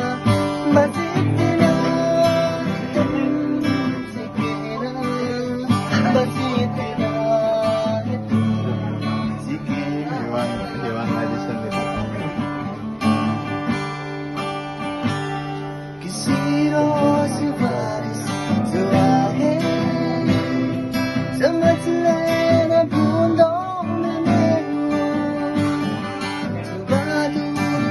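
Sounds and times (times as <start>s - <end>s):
person singing: 0.0s - 13.3s, 15.8s - 27.9s
strummed acoustic guitar: 0.0s - 27.9s.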